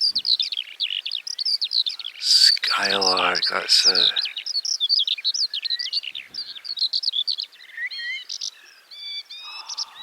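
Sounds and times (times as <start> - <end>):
skylark singing: 0.0 - 10.0.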